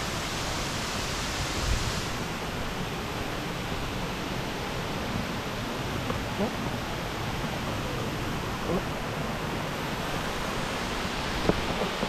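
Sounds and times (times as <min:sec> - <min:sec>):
waterfall rushing water: 0:00.0 - 0:12.0.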